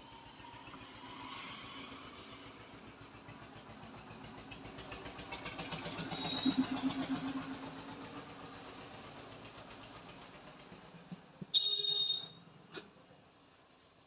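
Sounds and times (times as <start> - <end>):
vehicle engine passing by: 0.0 - 11.5.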